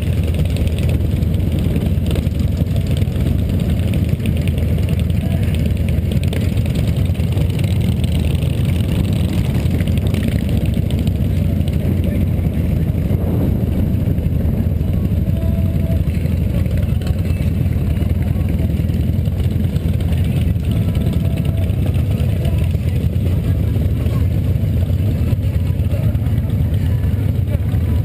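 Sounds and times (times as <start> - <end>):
motorcycle engine at low revs: 0.0 - 28.0
other motorcycle engines: 0.0 - 28.0.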